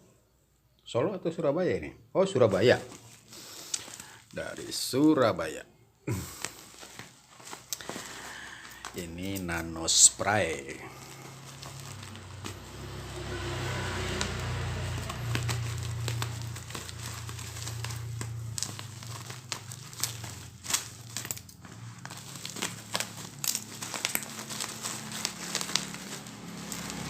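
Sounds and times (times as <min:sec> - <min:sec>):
plastic packaging crinkling and tearing: 0:02.5 - 0:05.1, 0:06.1 - 0:27.0.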